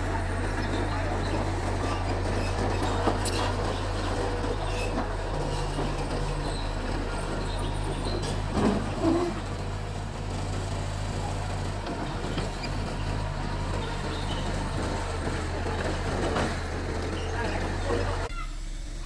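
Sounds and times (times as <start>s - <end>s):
bulldozer diesel engine humming: 0.0s - 19.0s.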